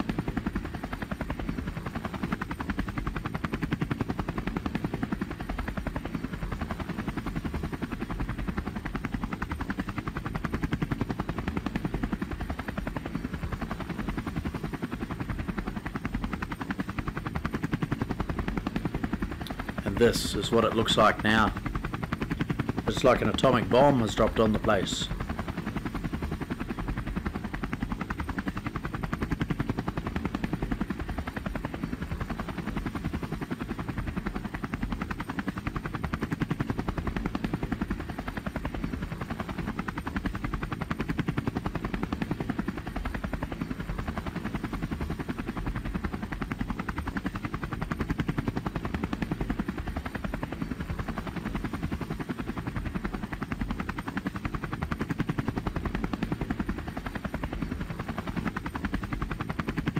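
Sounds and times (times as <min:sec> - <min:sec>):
helicopter rotor chopping: 0:00.0 - 0:59.9.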